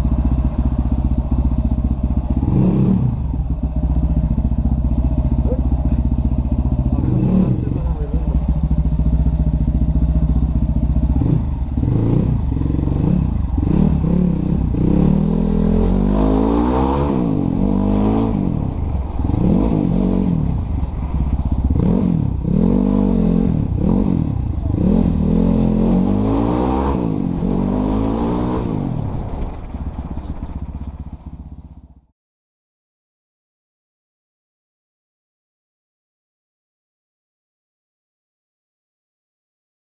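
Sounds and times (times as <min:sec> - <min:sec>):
motorcycle engine revving: 0:00.0 - 0:32.1.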